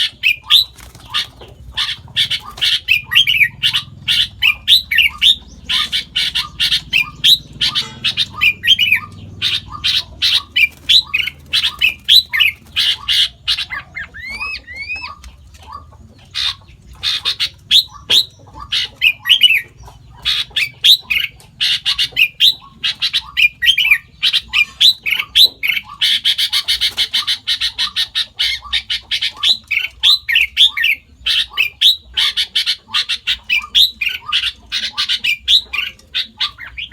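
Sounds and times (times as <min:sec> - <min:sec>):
bird fast chatter: 0:00.0 - 0:36.9
bird squawking calls: 0:00.0 - 0:36.9.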